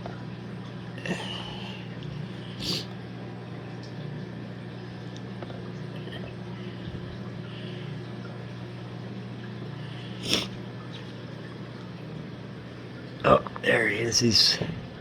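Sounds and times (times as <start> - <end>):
aquarium pump electrical hum: 0.0 - 15.0.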